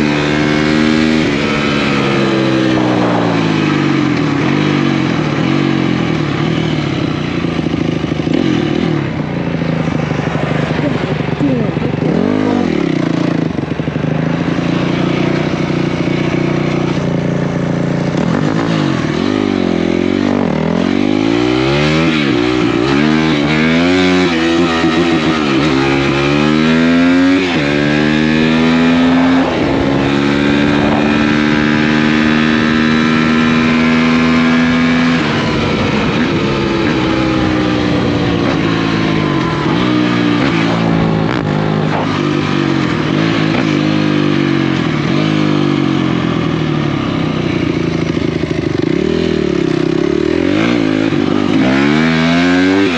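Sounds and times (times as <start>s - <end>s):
motorcycle engines revving hard: 0.0s - 52.9s.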